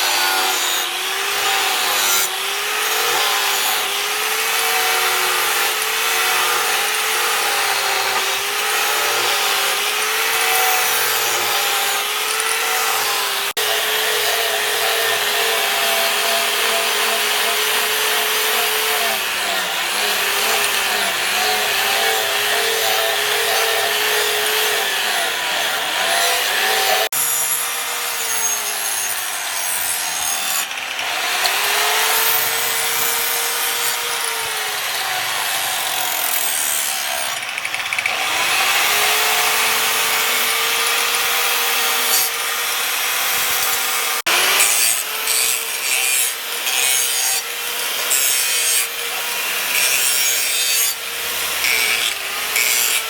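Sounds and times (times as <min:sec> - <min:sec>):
power grinder grinding steel: 0:00.0 - 0:53.0.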